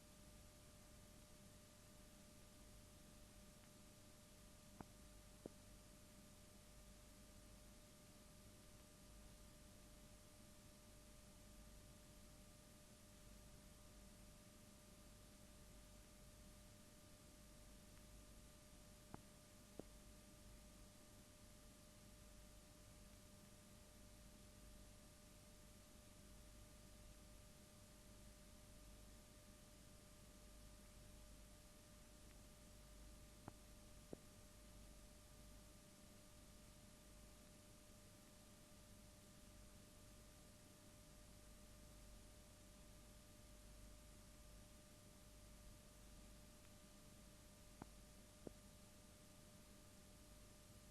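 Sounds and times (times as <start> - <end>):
faint hum tone: 0.0 - 50.9
faint steady hiss: 0.0 - 50.9.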